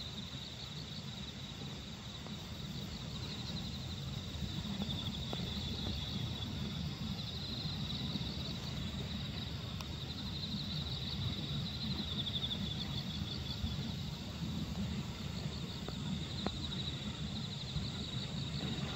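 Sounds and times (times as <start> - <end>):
crickets chirping: 0.0 - 18.9.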